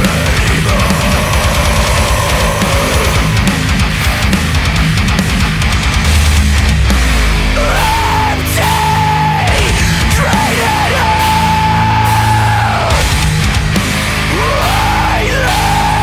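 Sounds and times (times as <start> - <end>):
bending lead guitar melody: 0.0 - 14.4
heavy metal music: 0.0 - 16.0.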